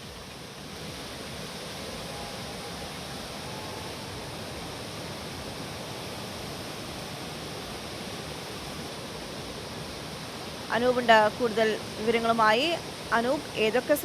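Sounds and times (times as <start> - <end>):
fast-flowing floodwater rushing: 0.0 - 14.0.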